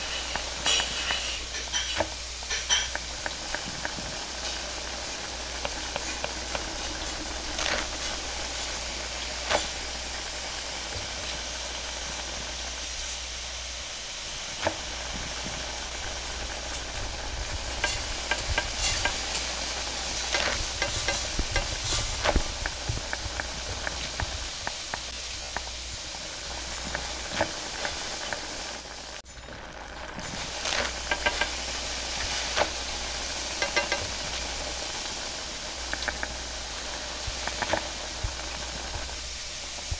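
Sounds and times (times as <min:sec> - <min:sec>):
kitchen work clicks: 0:00.0 - 0:11.4, 0:14.6 - 0:39.1
bread sizzling on a griddle: 0:00.0 - 0:39.9.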